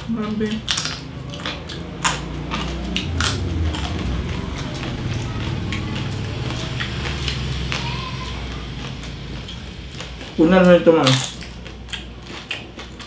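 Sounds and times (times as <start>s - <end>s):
crunchy chewing of crispy skin: 0.0s - 13.0s.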